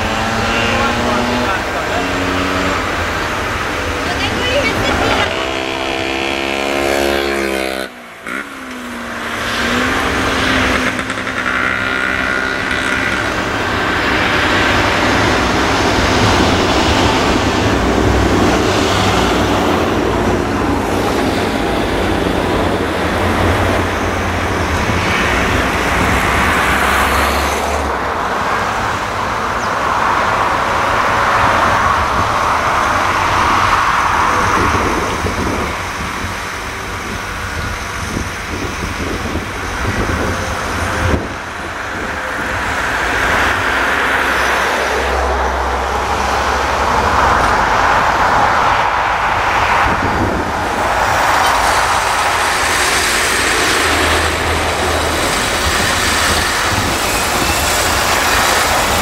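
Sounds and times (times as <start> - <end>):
tractor diesel engines working: 0.0 - 59.0
tractor engine revving: 0.0 - 59.0.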